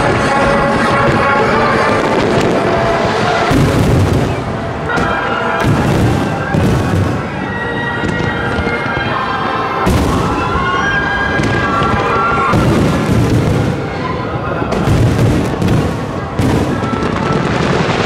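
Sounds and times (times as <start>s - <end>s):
fireworks bursting booms: 0.0s - 18.0s.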